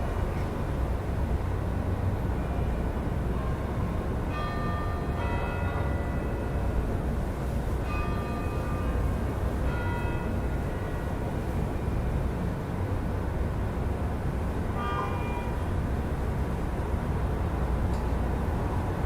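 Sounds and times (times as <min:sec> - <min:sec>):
low rumble of city traffic: 0:00.0 - 0:19.0.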